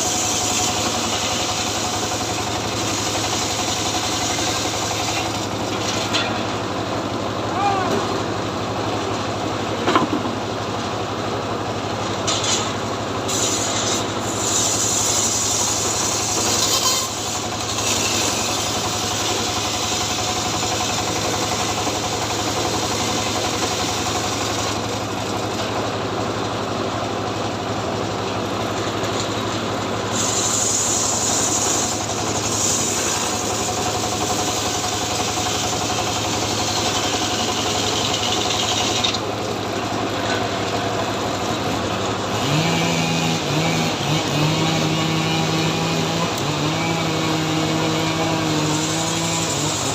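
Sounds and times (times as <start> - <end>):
chainsaw engine running: 0.0 - 49.9.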